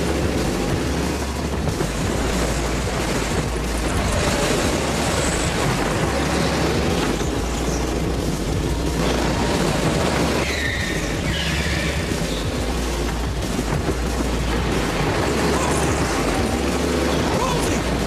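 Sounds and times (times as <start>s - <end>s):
background music: 0.0s - 18.0s
go-kart engines racing: 0.0s - 18.0s.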